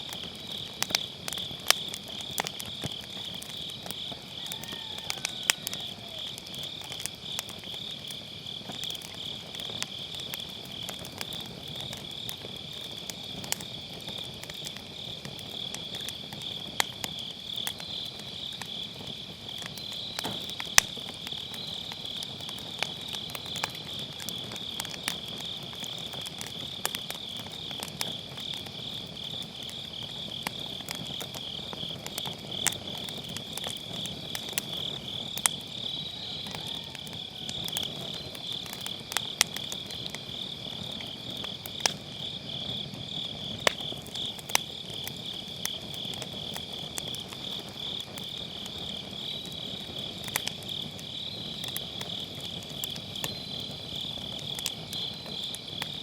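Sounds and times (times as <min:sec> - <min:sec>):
firewood crackling and popping: 0:00.0 - 0:56.0
night insects chirring: 0:00.0 - 0:56.0.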